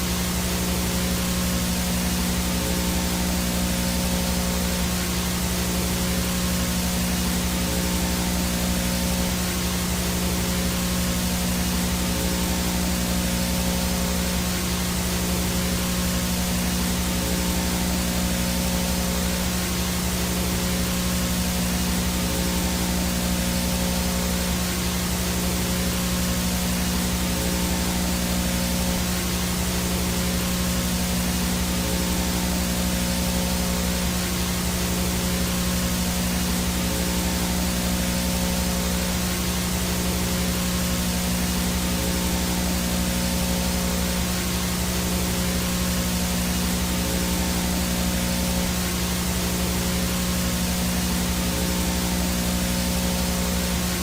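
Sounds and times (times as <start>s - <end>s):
low buzzing hum: 0.0s - 54.0s
static hiss: 0.0s - 54.0s.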